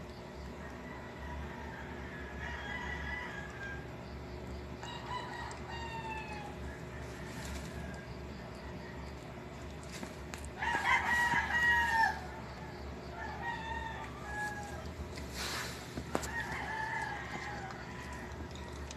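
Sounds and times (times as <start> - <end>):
steady low hum: 0.0 - 18.9
rooster crowing: 0.6 - 4.2, 4.8 - 18.9.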